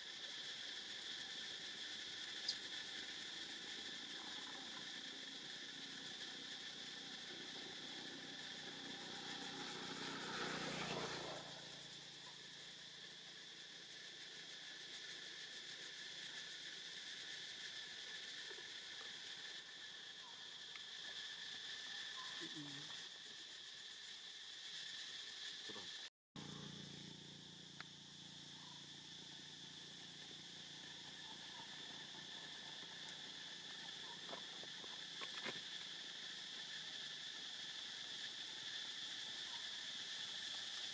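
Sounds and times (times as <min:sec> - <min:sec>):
insect chorus buzzing: 0:00.0 - 0:40.9.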